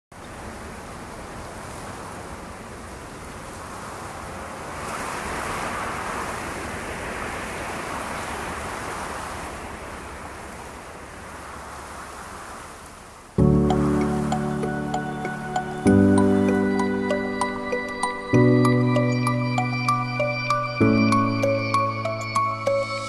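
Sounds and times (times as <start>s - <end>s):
steady rushing noise: 0.4s - 23.0s.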